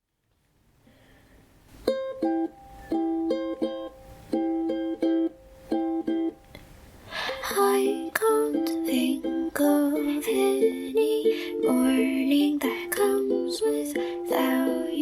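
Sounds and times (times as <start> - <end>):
ukulele plucked notes: 1.7 - 15.0.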